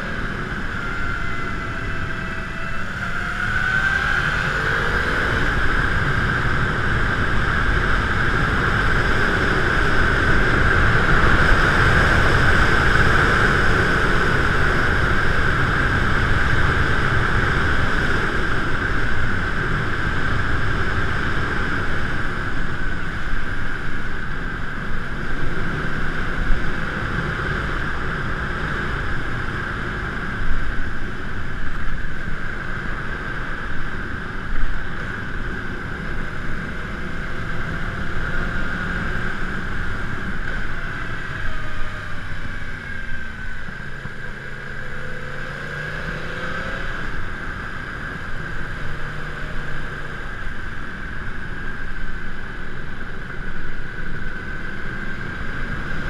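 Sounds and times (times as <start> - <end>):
steady high whine: 0.0 - 56.0
wind rumble on microphone: 0.0 - 56.0.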